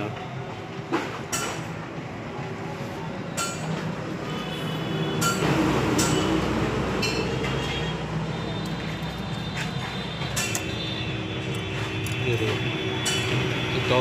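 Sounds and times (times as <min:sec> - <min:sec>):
engine hum: 0:01.7 - 0:13.8.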